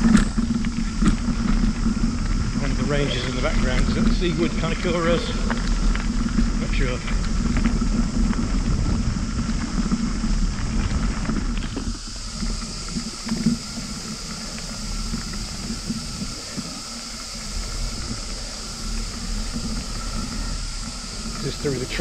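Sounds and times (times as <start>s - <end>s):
bicycle tyres on gravel: 0.0s - 22.0s
cicadas droning: 0.0s - 22.0s
wind on microphone: 0.0s - 22.0s.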